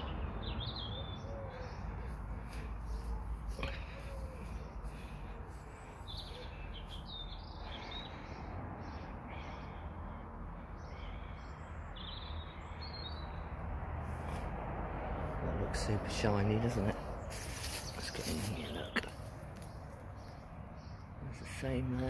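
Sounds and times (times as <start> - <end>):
small birds chirping: 0.0 - 14.6, 15.2 - 22.0.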